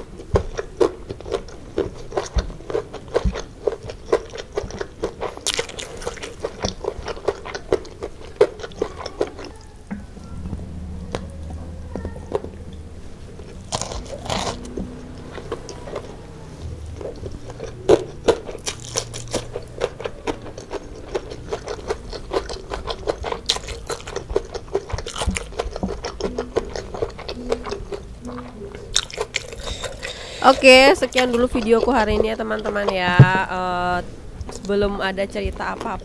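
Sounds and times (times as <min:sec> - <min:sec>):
chewing and crunching food: 0:00.0 - 0:10.5, 0:11.1 - 0:33.6.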